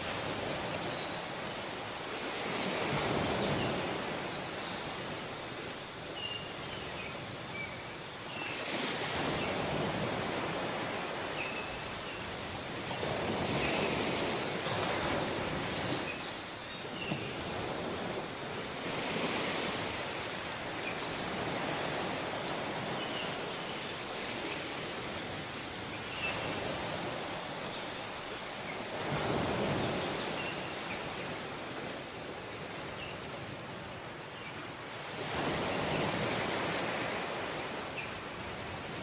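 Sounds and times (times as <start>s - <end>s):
sea waves washing onto beach: 0.0s - 39.0s.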